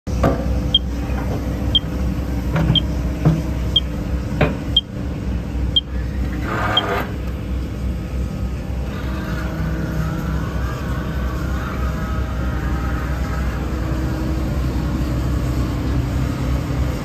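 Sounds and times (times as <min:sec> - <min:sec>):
excavator running: 0:00.1 - 0:17.0.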